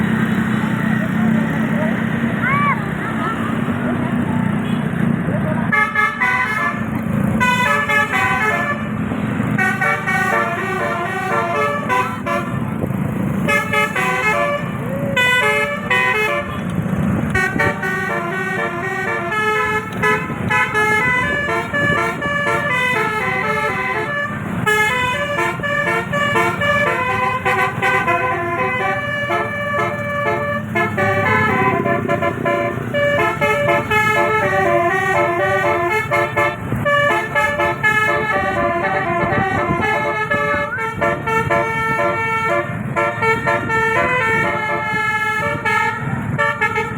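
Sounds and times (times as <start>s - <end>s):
bus horn playing melody: 5.7s - 46.9s.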